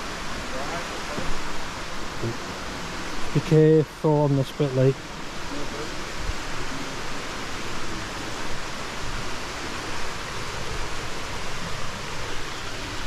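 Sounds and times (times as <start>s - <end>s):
fast-flowing river water rushing: 0.0s - 13.0s.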